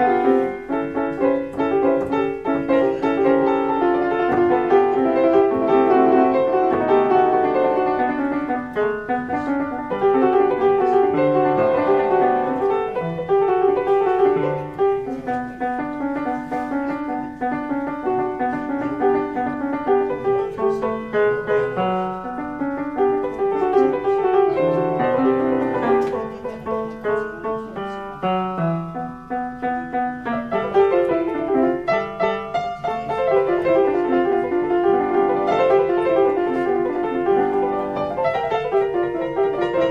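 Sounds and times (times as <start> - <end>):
upright piano playing: 0.0 - 39.9.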